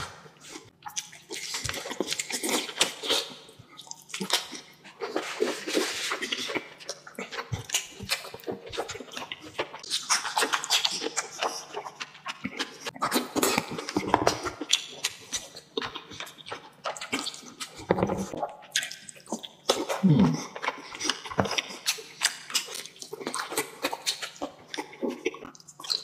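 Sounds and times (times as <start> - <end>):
person chewing and smacking lips: 0.1 - 26.0.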